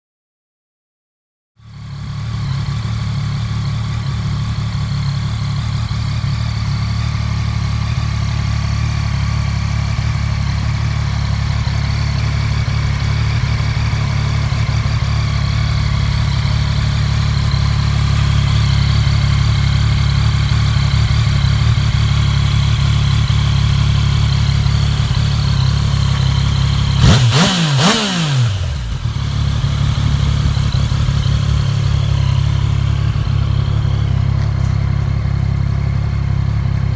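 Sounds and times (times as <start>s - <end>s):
motorcycle engine idling: 1.6s - 36.9s.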